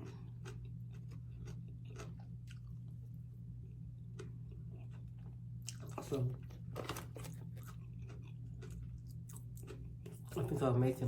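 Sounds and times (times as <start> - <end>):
person chewing food: 0.0 - 10.6
steady low hum: 0.0 - 11.0.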